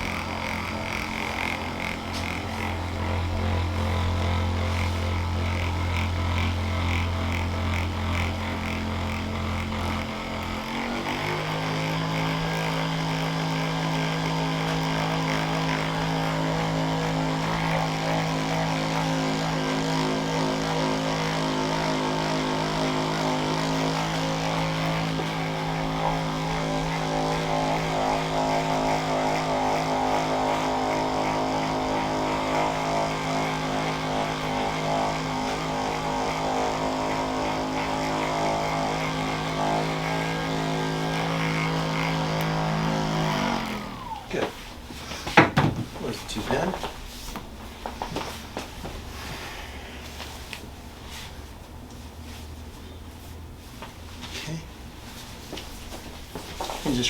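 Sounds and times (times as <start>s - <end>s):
electric massager motor humming: 0.0s - 57.0s.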